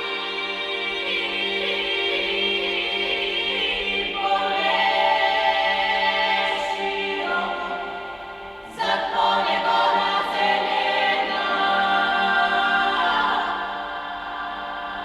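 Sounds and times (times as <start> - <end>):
choir-like sung voices: 0.0 - 15.0.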